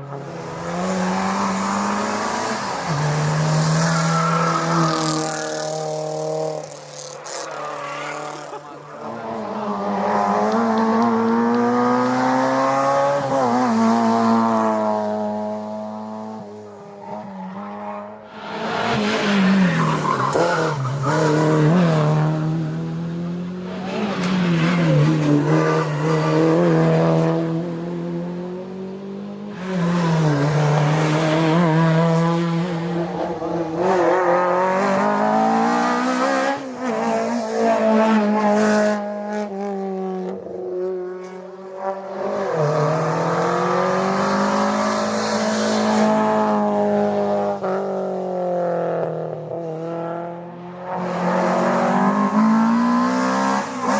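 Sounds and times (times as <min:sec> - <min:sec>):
racing car engines revving: 0:00.0 - 0:53.9.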